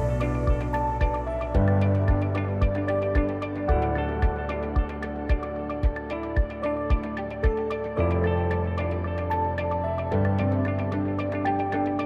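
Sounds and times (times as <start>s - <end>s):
electronic ambient music: 0.0s - 12.0s.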